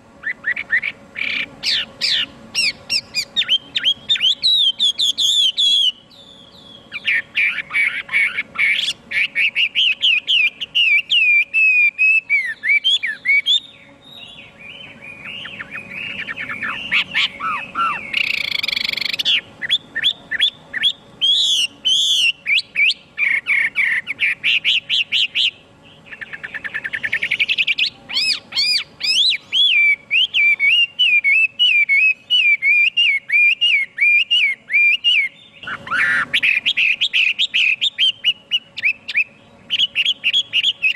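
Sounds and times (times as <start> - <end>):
bird singing whistled trills: 0.2 - 40.9.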